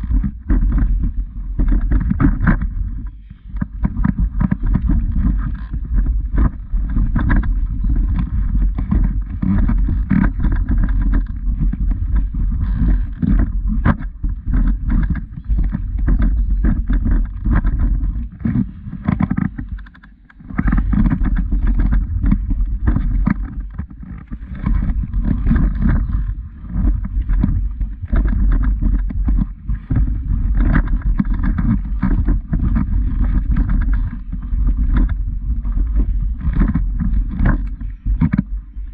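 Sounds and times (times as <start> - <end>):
muffled low rumble: 0.0 - 38.9.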